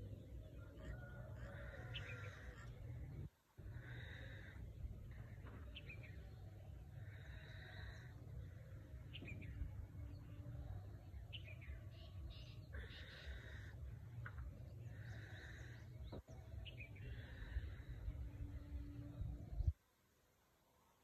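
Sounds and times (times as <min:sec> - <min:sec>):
birds chirping and calling: 0:00.0 - 0:19.7
low steady outdoor rumble: 0:00.0 - 0:21.0.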